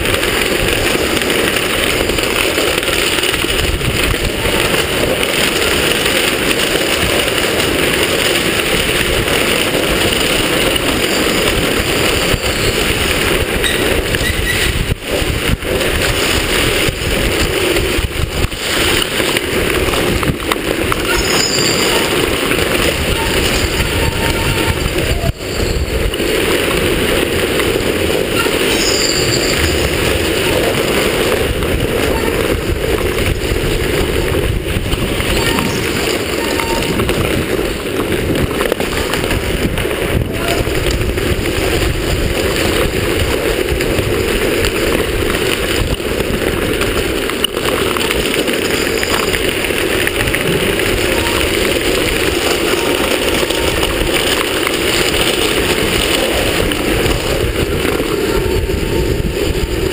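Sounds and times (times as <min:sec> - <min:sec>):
wheels rolling over stone paving: 0:00.0 - 0:59.9.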